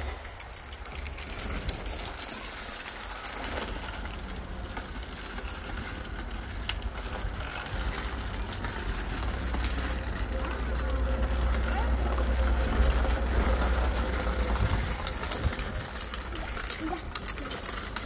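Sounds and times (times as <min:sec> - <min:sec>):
bicycle rattling on concrete: 0:00.0 - 0:18.0.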